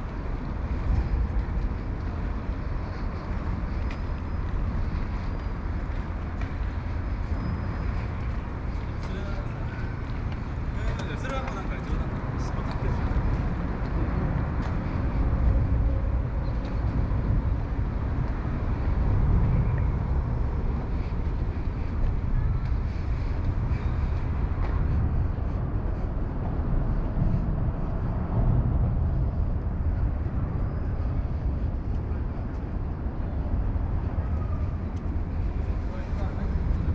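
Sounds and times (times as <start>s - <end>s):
low rumble of traffic: 0.0s - 36.9s.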